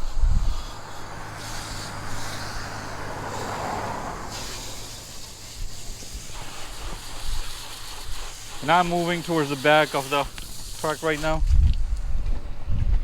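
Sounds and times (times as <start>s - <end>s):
water spray hitting truck: 0.0s - 11.6s.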